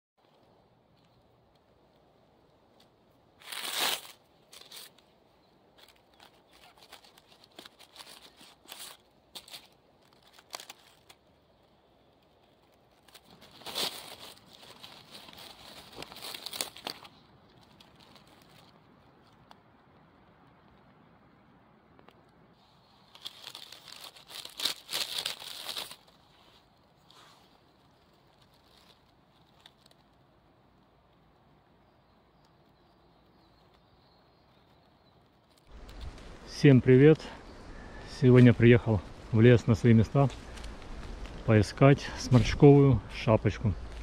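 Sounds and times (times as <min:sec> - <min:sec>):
leaves and twigs crackling: 0:00.2 - 0:44.0.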